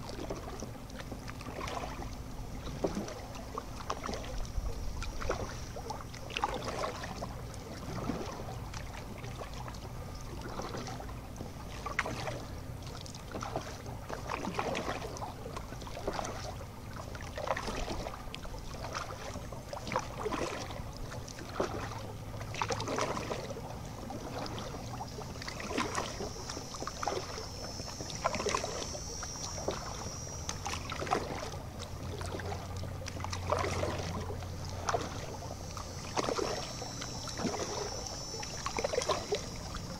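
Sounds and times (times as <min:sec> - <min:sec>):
kayak paddle dipping in water: 0:00.0 - 0:39.9
water splashing off paddle blade: 0:00.0 - 0:39.9.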